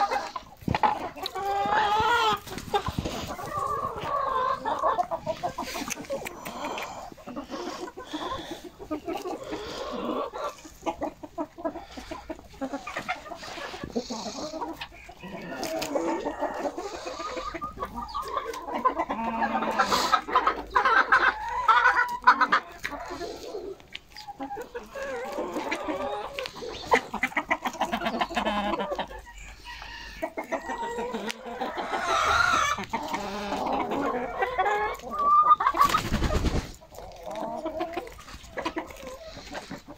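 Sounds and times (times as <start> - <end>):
hens clucking: 0.0 - 39.9.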